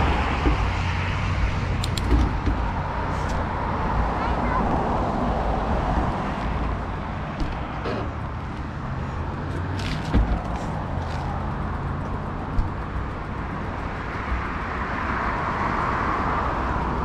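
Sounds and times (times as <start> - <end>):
bicycle rolling on concrete: 0.0 - 17.0
car tyres passing: 0.0 - 17.0
road traffic: 0.0 - 17.0
wind: 0.0 - 17.0.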